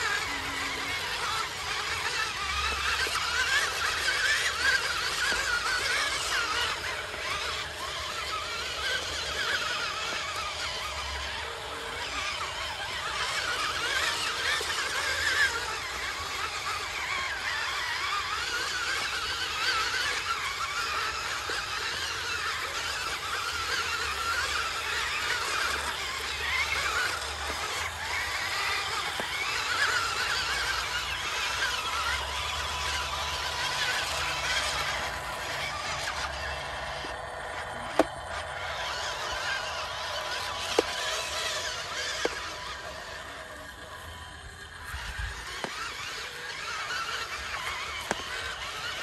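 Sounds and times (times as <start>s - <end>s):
electric motor and gearbox whining: 0.0s - 49.0s.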